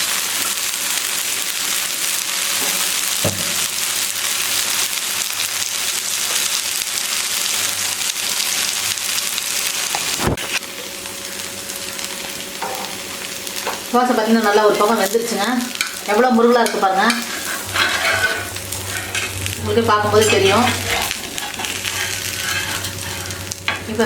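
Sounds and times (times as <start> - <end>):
dosa sizzling in oil: 0.0 - 24.0.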